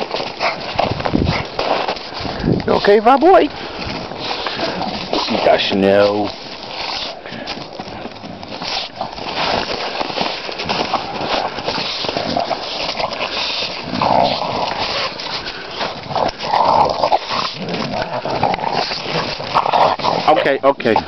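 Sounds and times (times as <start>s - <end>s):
dogs growling and grunting: 0.0s - 2.7s, 3.3s - 21.0s.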